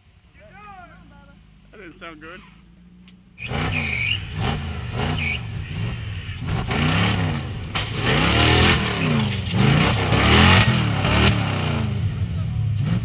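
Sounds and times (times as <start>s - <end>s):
truck engine revving under load: 1.4s - 13.0s.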